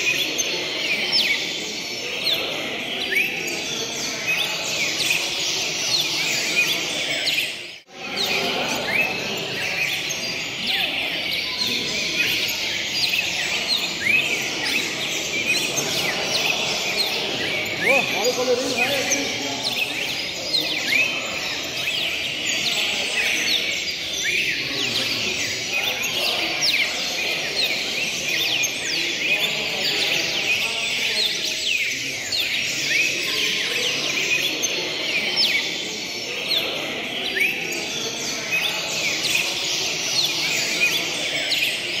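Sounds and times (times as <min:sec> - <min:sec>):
cardinals chirping: 0:00.0 - 0:42.0.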